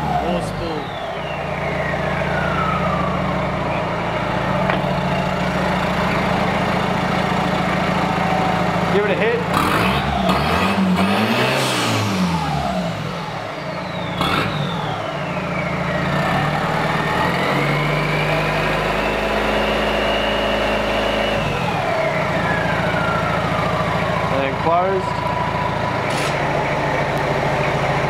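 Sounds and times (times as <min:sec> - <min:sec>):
turbocharger whistle: 0:00.0 - 0:06.3, 0:09.5 - 0:26.4
diesel engine revving: 0:00.0 - 0:28.0.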